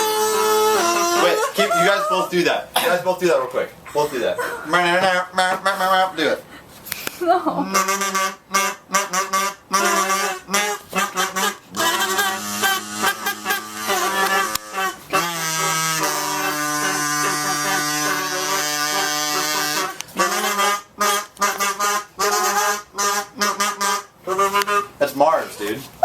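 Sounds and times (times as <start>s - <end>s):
kazoos buzzing: 0.0s - 3.2s, 4.6s - 6.2s, 7.7s - 25.4s.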